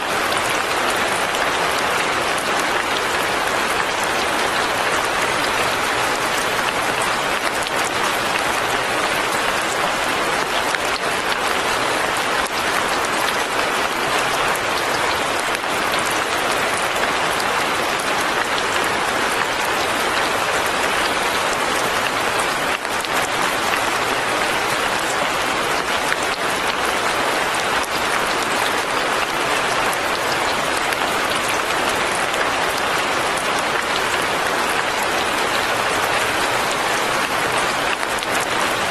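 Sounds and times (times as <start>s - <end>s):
light rain patter: 0.0s - 38.9s.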